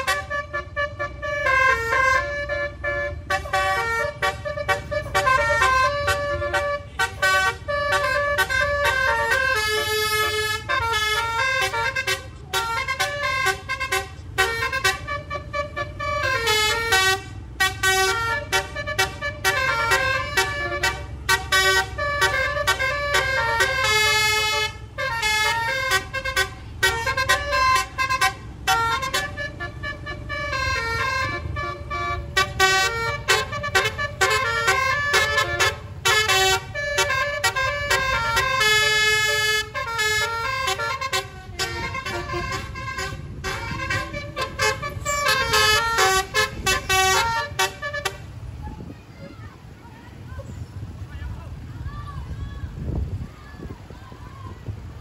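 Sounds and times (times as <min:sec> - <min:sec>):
musical bus horn playing a tune: 0:00.0 - 0:48.9
low vehicle rumble: 0:00.0 - 0:55.0.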